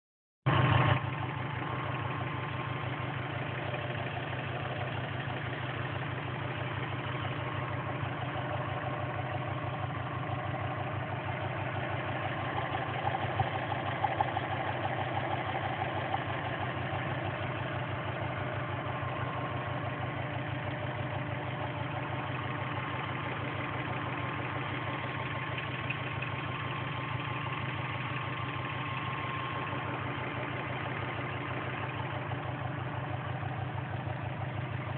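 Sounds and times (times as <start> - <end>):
engine idling with ticking: 0.5 - 34.9.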